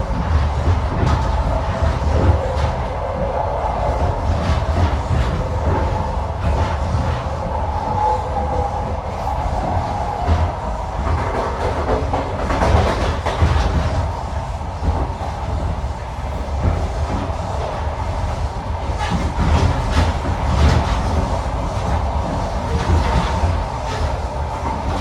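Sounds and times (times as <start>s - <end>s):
train carriage rumble: 0.0s - 25.0s.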